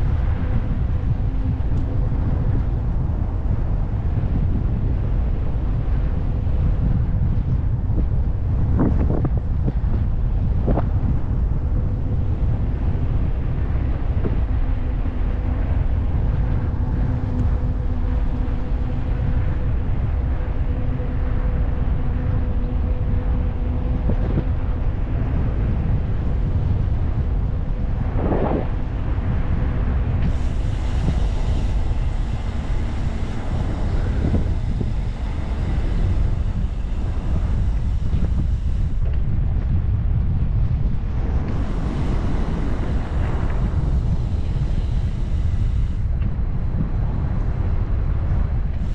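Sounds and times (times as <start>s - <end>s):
faint hum: 0.0s - 48.9s
wind buffeting microphone: 0.0s - 48.9s.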